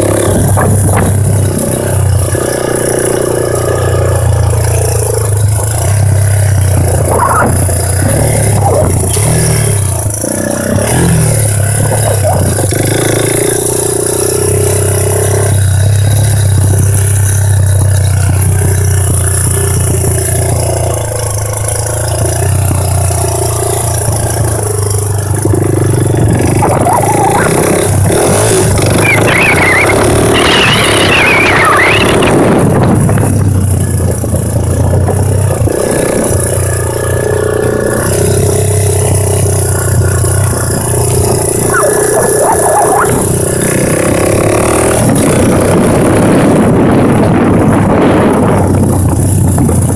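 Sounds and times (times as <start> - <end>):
engine running and revving: 0.0 - 49.9.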